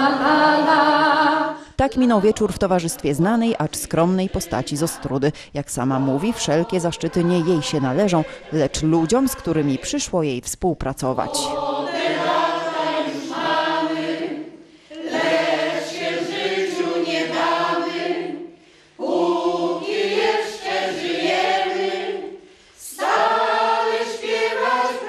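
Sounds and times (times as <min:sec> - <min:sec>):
choir singing: 0:00.0 - 0:10.4, 0:11.0 - 0:25.0.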